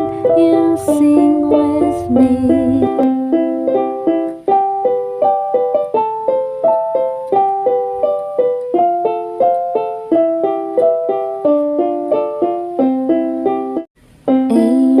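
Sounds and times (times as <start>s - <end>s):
instrumental keyboard music: 0.0s - 15.0s.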